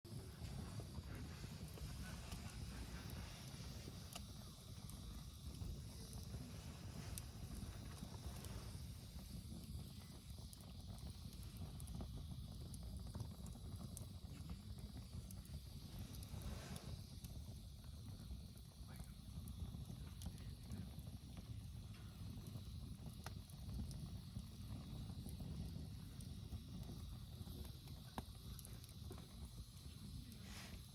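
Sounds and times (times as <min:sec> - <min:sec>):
wood fire crackling: 0:00.1 - 0:30.9.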